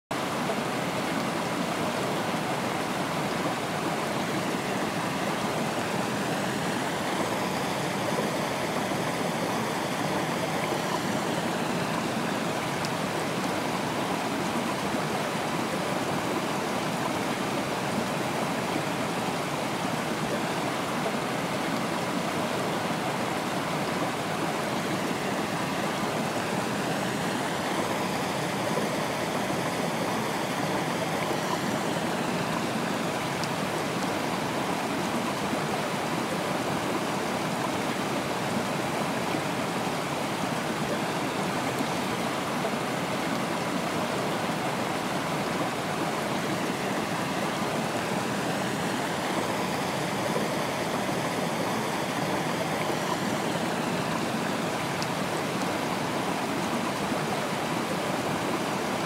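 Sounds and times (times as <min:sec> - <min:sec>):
stream rushing over rocks: 0:00.1 - 0:59.0.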